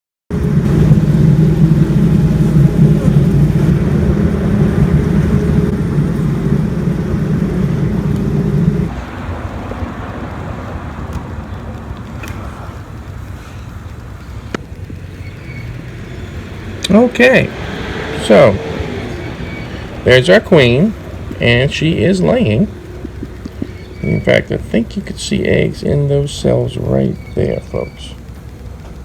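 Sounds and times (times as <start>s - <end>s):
honeybees buzzing: 0.3s - 29.0s.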